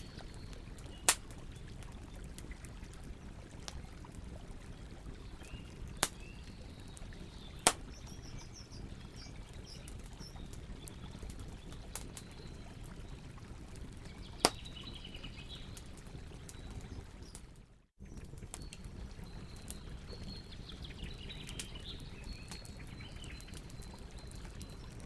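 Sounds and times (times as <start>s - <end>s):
small birds chirping: 0.0s - 3.3s, 5.0s - 13.2s, 13.9s - 17.4s, 18.0s - 25.0s
campfire crackling: 0.0s - 25.0s.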